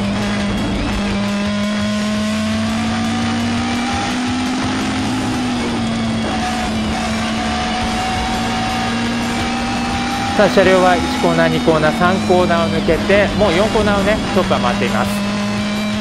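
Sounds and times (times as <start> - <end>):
race car engine pulling hard: 0.0 - 16.0.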